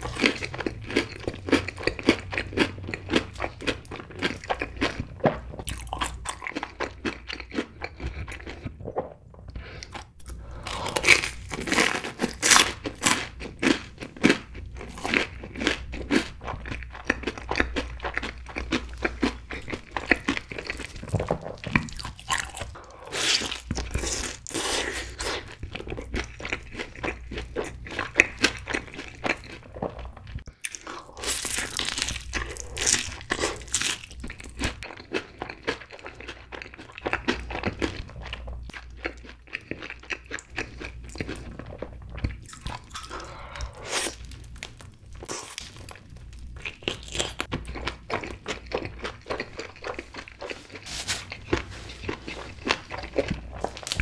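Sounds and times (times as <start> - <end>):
crunchy food chewing: 0.0 - 8.8, 9.6 - 54.0.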